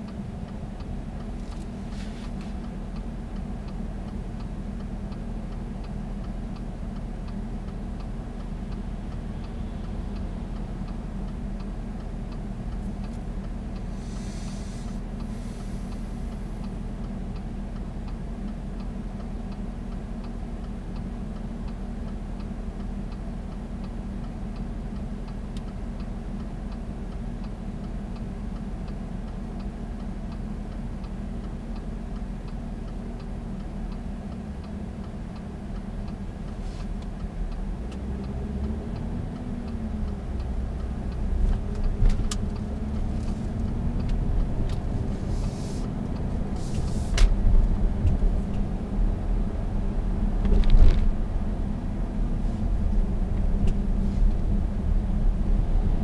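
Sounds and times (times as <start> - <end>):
diesel engine: 0.0 - 56.0
road noise: 0.0 - 56.0
turn signal ticking: 0.0 - 56.0.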